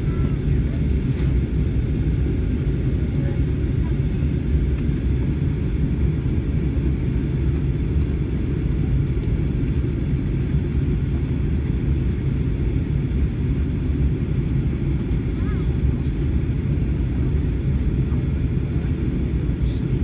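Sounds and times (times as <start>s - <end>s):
airplane cabin drone: 0.0s - 20.0s.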